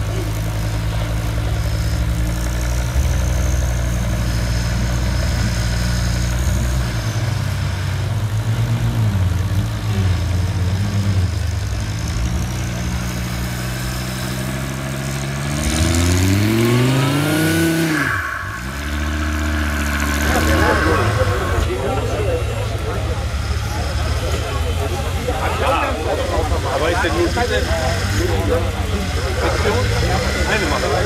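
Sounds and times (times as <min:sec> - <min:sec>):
turbocharged engine revving: 0:00.0 - 0:31.0.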